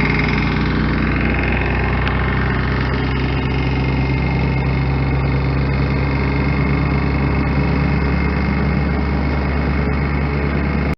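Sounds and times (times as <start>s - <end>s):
engine humming steadily: 0.0s - 10.9s.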